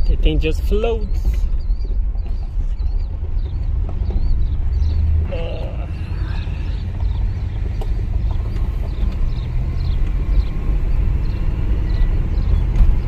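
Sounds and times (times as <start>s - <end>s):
car engine rumble: 0.0s - 13.0s
road noise inside car: 0.0s - 13.0s.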